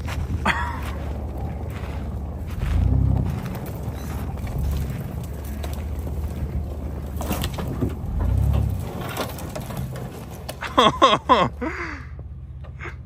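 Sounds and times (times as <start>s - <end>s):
truck engine and tyre rumble: 0.0s - 13.0s.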